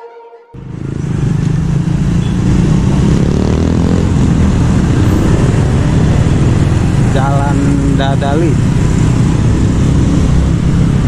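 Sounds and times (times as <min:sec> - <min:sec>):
car engines: 0:00.6 - 0:11.0
motorcycle engines: 0:00.6 - 0:11.0.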